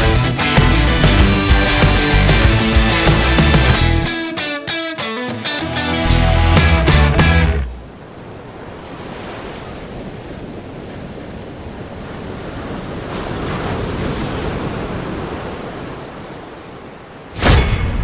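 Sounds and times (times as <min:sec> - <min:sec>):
sea waves: 0:00.0 - 0:18.0.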